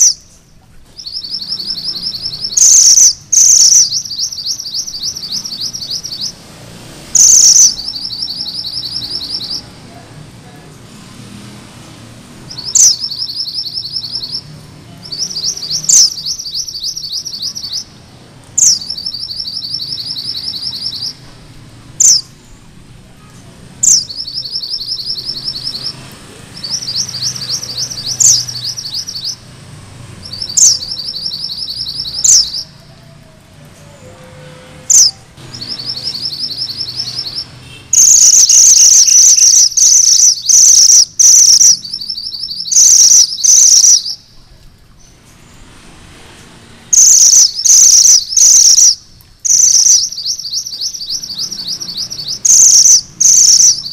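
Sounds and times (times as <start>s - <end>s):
bird singing rolling song: 0.0s - 10.0s, 12.4s - 21.3s, 22.0s - 22.7s, 23.8s - 45.7s, 46.9s - 53.9s.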